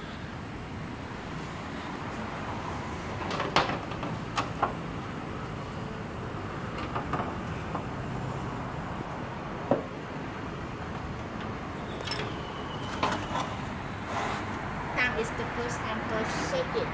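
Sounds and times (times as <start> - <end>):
workshop background noise: 1.3 - 16.5.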